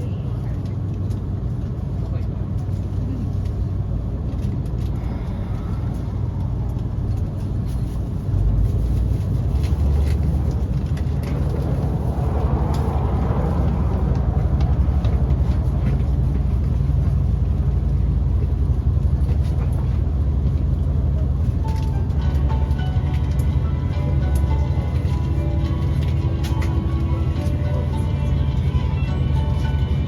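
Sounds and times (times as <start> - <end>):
train cabin rumble: 0.0 - 30.0.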